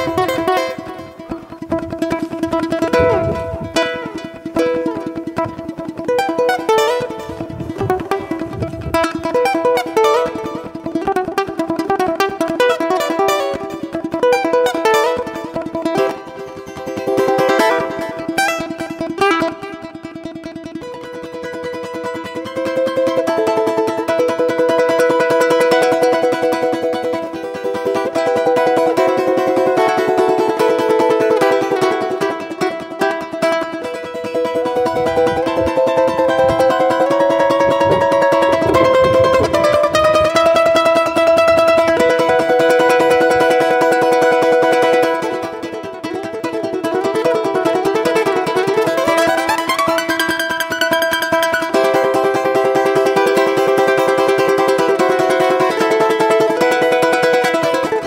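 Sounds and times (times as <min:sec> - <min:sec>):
balalaika plucked melody: 0:00.0 - 0:58.0.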